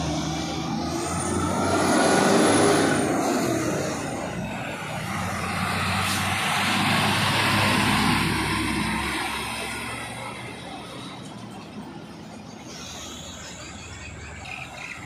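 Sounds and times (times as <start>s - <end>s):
road vehicles passing: 0.0s - 15.0s.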